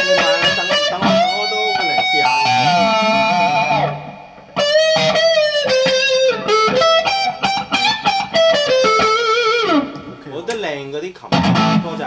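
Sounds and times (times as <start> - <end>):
electric guitar lead melody: 0.0 - 10.2, 11.3 - 12.0.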